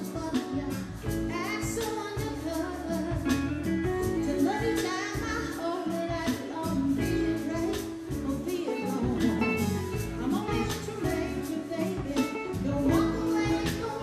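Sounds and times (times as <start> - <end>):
drum kit beat: 0.0 - 14.0
electric bass: 0.0 - 14.0
woman singing into a microphone: 0.0 - 14.0.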